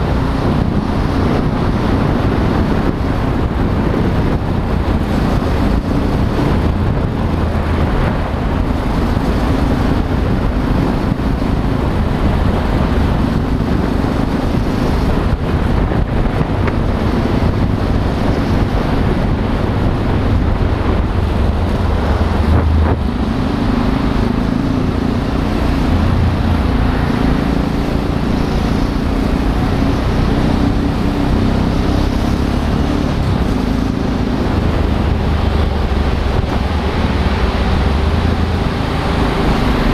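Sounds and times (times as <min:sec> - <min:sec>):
motorcycle engine running: 0:00.0 - 0:39.9
tyre and traffic noise: 0:00.0 - 0:39.9
wind rushing over microphone: 0:00.0 - 0:39.9.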